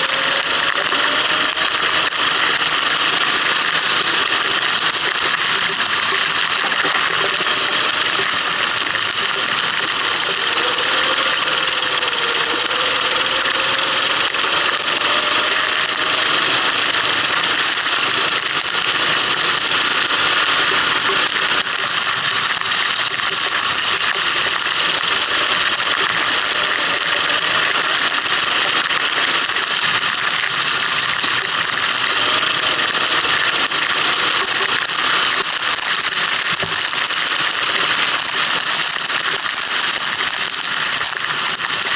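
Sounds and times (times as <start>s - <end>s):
kart engine running: 0.0s - 41.9s.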